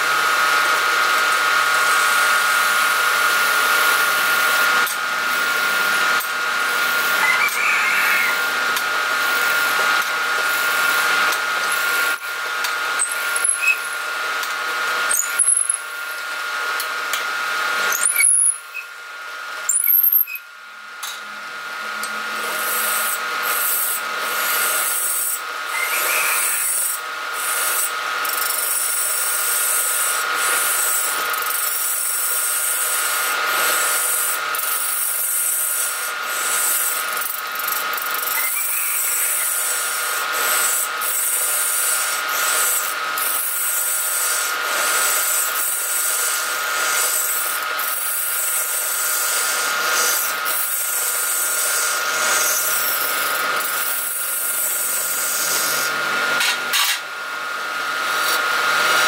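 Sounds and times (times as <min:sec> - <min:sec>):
tool scraping spinning wood: 0:00.0 - 0:19.0, 0:22.0 - 0:59.0
wood lathe whine: 0:00.0 - 0:59.0.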